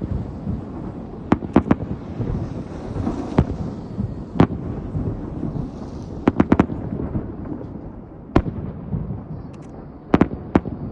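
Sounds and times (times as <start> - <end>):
continuous low rumble: 0.0 - 10.9
fireworks bursting with bangs: 0.0 - 10.9.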